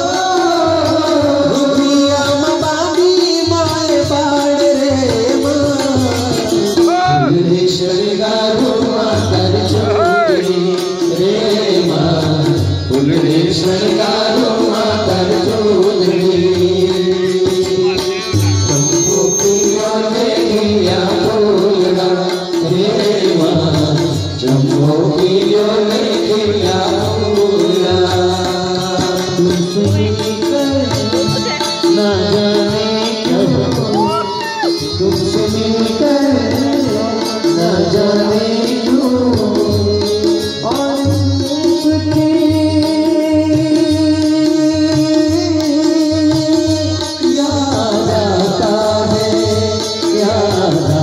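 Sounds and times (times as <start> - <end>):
harmonium: 0.0 - 51.0
men singing devotional song: 0.0 - 51.0
tabla drumming: 0.0 - 51.0.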